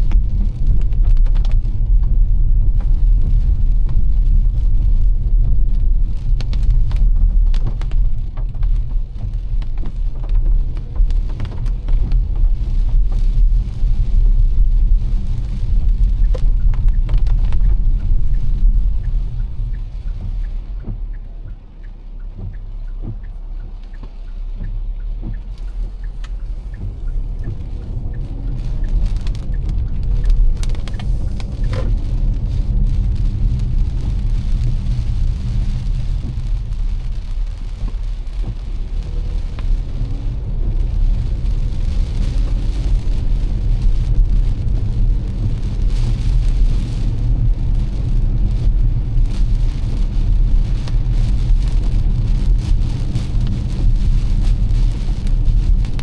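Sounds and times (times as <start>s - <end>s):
car engine and road rumble: 0.0s - 56.0s
rain hissing: 0.0s - 56.0s
wet tyres on road: 0.0s - 56.0s.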